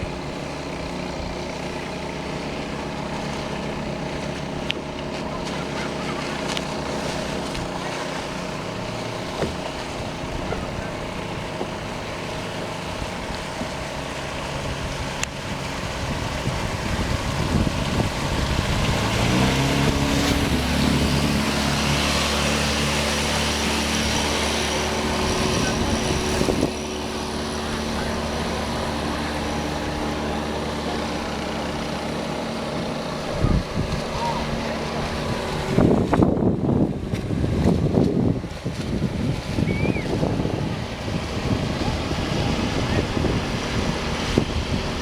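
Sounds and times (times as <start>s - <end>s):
outboard motor running: 0.0s - 45.0s
rushing water and wind: 0.0s - 45.0s.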